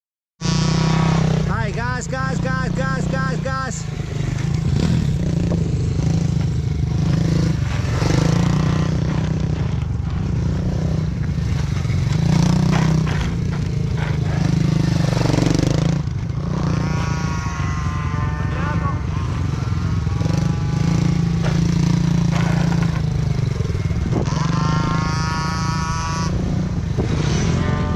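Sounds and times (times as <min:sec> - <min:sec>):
pit bike engine under load: 0:00.4 - 0:27.9.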